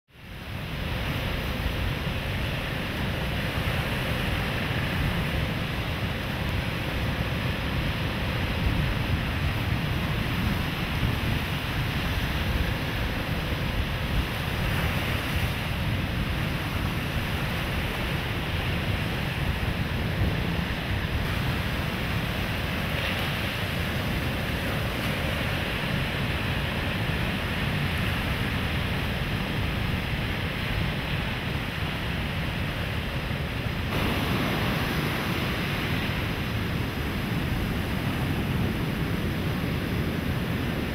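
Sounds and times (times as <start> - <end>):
sea surf breaking on shore: 0.1 - 40.9
wind rumble on microphone: 0.1 - 40.9.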